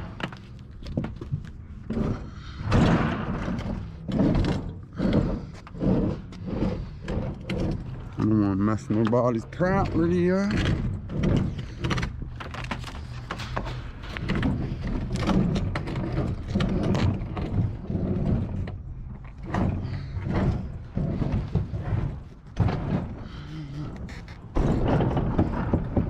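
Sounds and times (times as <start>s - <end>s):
heavy appliance dragged scraping: 0.0s - 26.0s
metal clunks and knocks: 0.0s - 26.0s.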